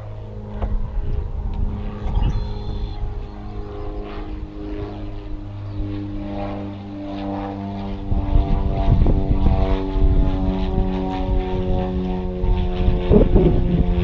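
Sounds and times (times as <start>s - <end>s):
propeller engine droning: 0.0s - 14.0s
wind rumbling on microphone: 0.0s - 14.0s.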